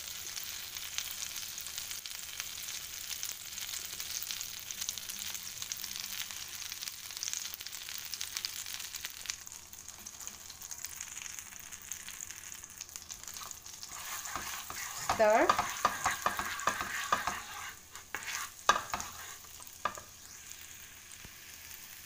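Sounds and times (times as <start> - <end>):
garlic sizzling in butter: 0.0 - 22.0.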